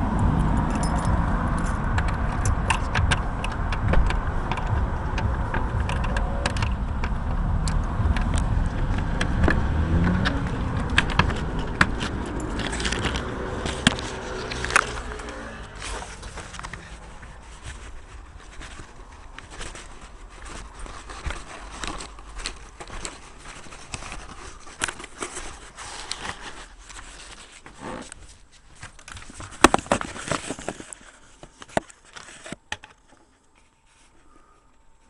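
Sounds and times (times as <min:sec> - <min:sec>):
rustling: 0:00.0 - 0:35.0.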